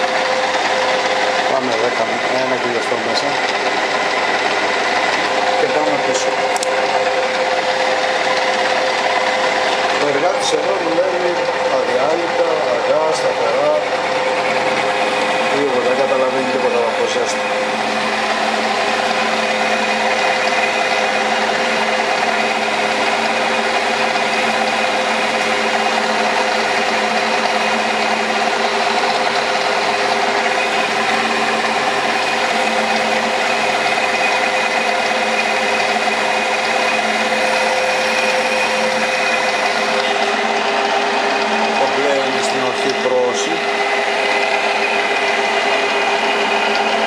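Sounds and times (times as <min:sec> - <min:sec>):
metal lathe humming and whining: 0:00.0 - 0:47.0.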